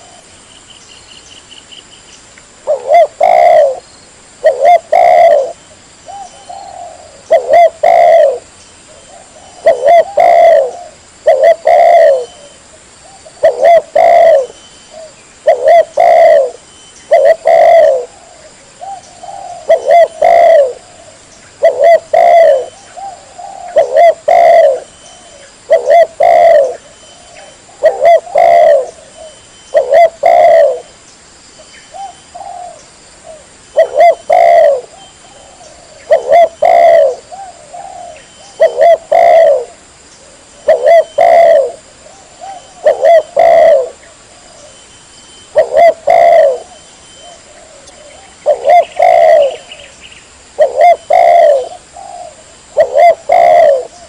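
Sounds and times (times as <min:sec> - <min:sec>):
dove cooing: 0:00.0 - 0:00.4, 0:02.6 - 0:03.8, 0:04.4 - 0:31.0, 0:31.9 - 0:44.9, 0:45.5 - 0:54.0.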